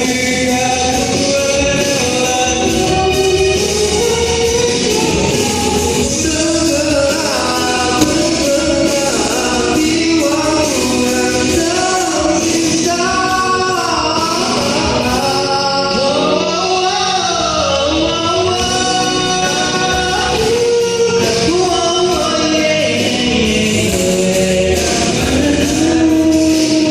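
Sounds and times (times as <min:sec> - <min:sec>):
vocal group singing in harmony: 0:00.0 - 0:26.9.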